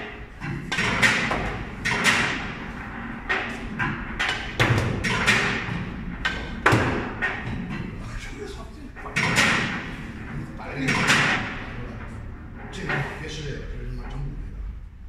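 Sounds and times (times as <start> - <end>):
pool balls knocking and clacking: 0.0 - 14.3.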